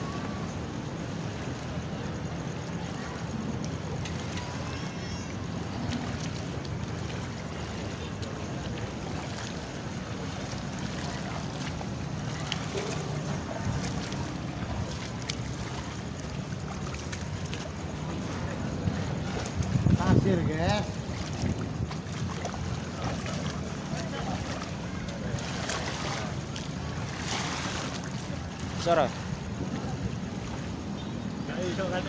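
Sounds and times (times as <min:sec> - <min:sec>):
steady wind: 0:00.0 - 0:32.0
wading splashes: 0:00.0 - 0:32.0
water lapping around boat: 0:00.0 - 0:32.0.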